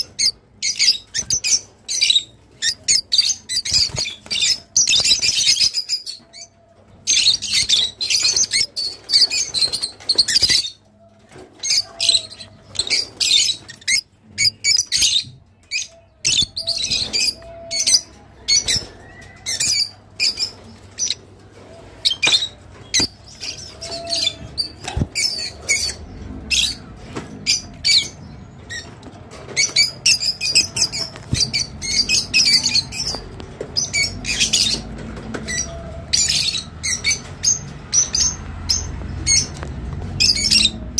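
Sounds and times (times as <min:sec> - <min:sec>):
lovebirds chattering: 0:00.0 - 0:40.9.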